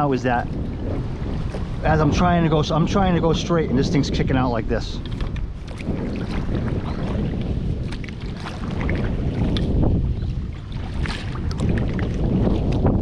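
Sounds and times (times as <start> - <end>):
paddle strokes splashing water: 0.0 - 13.0
wind rumble on microphone: 0.0 - 13.0.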